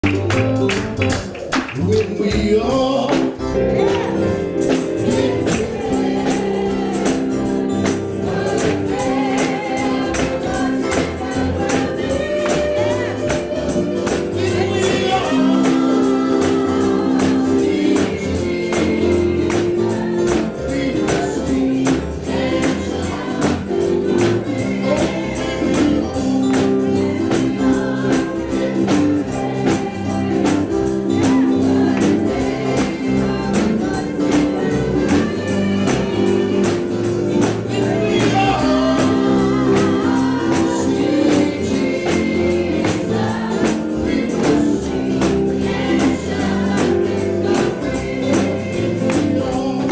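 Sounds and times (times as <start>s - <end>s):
gospel band playing: 0.0s - 49.9s
group of voices singing: 1.8s - 49.9s
tambourine: 3.3s - 49.9s.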